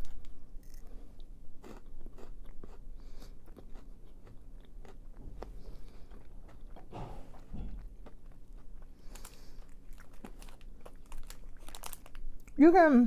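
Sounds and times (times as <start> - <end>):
person chewing crunchy wafer: 0.6 - 12.6.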